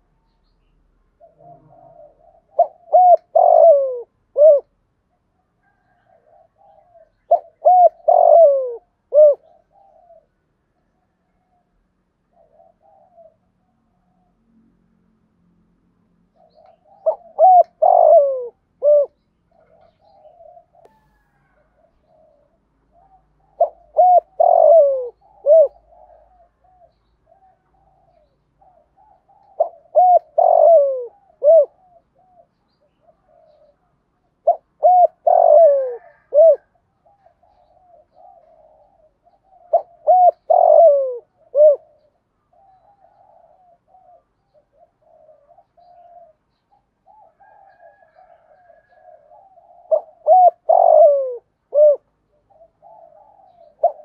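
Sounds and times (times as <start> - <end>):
dove cooing: 1.2 - 14.4, 16.3 - 54.0.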